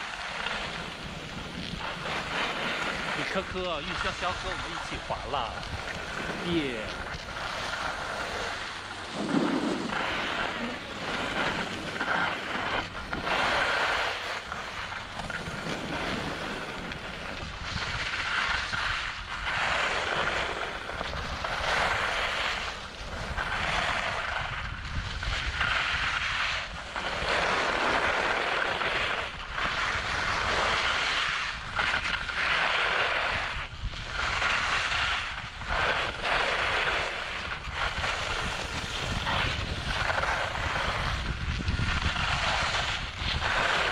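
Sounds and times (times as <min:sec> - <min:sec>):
wind buffeting microphone: 0:00.0 - 0:32.3, 0:33.2 - 0:43.9
skis swishing over snow: 0:00.0 - 0:43.9.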